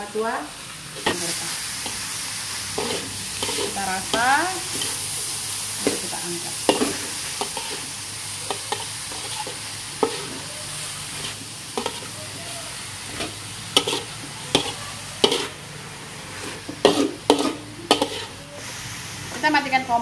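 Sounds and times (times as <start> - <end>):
food sizzling in a wok: 0.0 - 20.0
metal spatula scraping a pan: 1.0 - 18.7.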